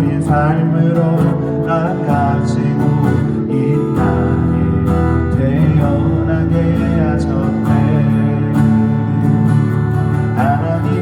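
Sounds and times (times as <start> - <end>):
faint person singing: 0.0 - 9.0
strummed acoustic guitar: 0.0 - 11.0.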